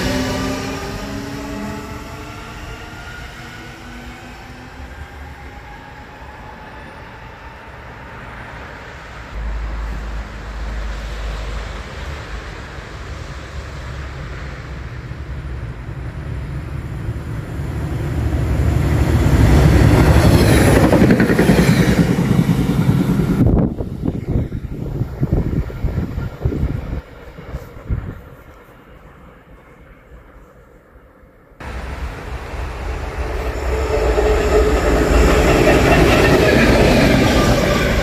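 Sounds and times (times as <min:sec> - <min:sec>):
electric train running on rails: 0:00.0 - 0:38.0.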